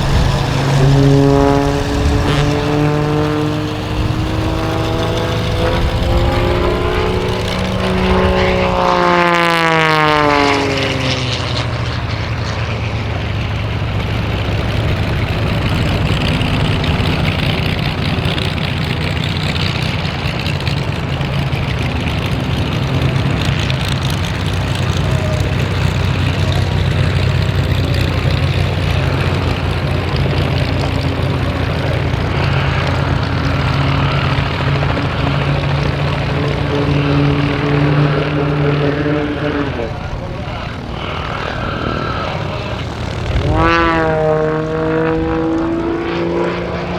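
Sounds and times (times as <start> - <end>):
biplane engine and propeller: 0.0 - 46.9.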